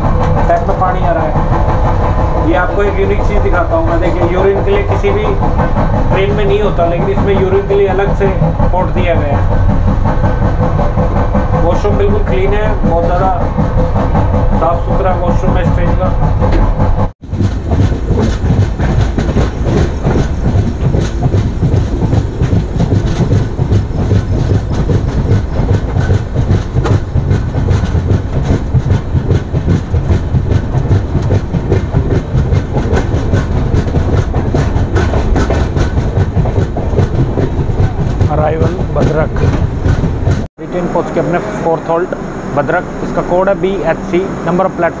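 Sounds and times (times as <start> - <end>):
train wheels clattering over rail joints: 0.0 - 40.9
low train rumble: 0.0 - 45.0.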